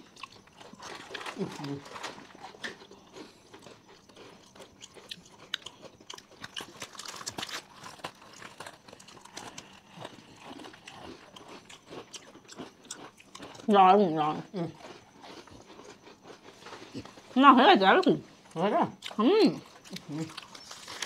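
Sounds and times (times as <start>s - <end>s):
biscuits crunching: 0.0s - 13.8s, 14.7s - 17.6s, 18.3s - 21.0s
chewing: 0.0s - 17.4s, 18.0s - 21.0s.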